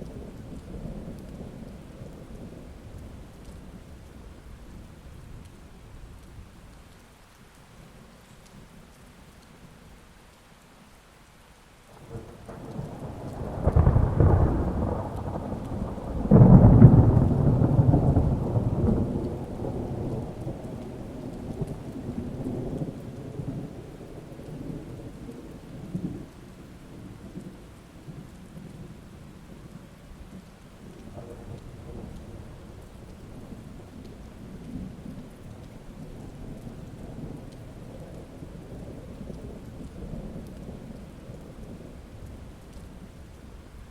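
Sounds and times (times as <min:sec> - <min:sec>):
thunder rumbling: 0:00.0 - 0:06.5, 0:11.9 - 0:43.9
steady rain: 0:00.0 - 0:43.9.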